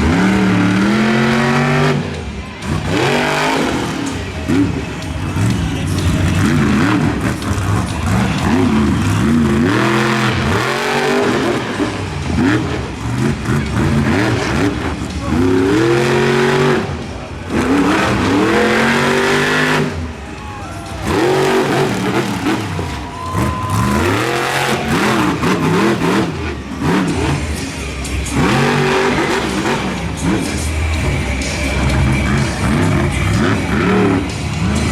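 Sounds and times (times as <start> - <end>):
truck engine revving hard: 0.0 - 34.9.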